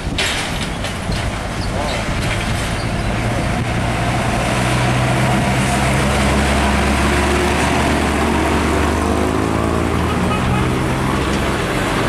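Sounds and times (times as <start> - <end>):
truck diesel engine: 0.0 - 12.0
tyre and road noise: 0.0 - 12.0.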